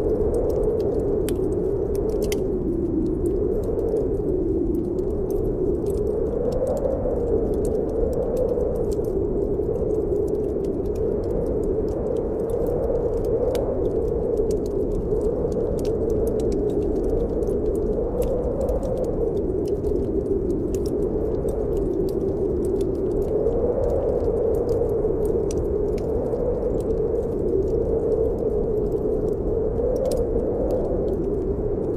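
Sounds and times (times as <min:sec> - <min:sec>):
snowstorm wind blowing: 0:00.0 - 0:31.9
wood fire crackling and popping: 0:00.0 - 0:31.9.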